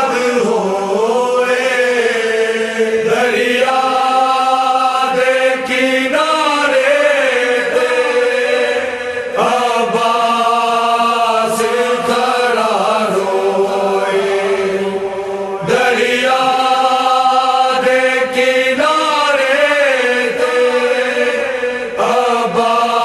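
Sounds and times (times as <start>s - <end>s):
steady low drone: 0.0s - 18.7s
person chanting a lament: 0.0s - 23.0s.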